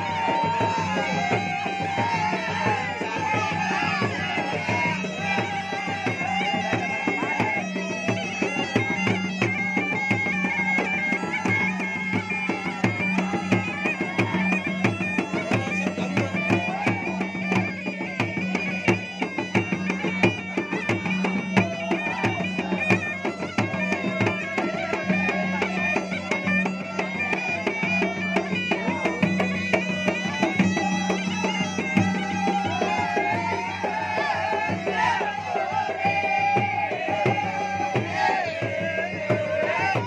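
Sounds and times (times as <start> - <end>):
double-headed drums beaten fast: 0.0 - 40.0
reed pipe melody: 0.0 - 40.0.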